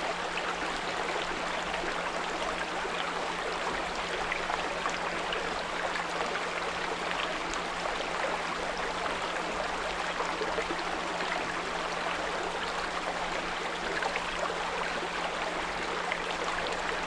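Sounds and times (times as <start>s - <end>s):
brook babbling: 0.0s - 17.0s.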